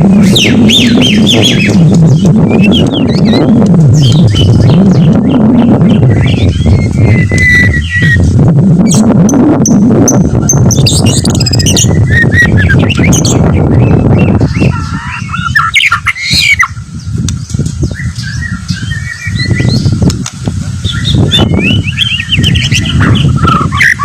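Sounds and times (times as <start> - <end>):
bird singing with whistles and squawks: 0.0 - 20.1, 20.8 - 24.0
loud low rumble: 0.0 - 24.0.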